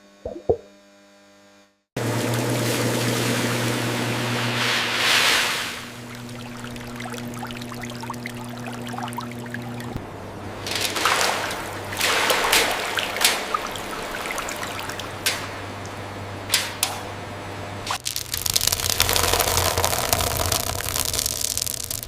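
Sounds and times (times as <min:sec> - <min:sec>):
low machine hum: 0:02.0 - 0:22.0
water splashing and trickling: 0:02.3 - 0:16.2, 0:17.9 - 0:22.0.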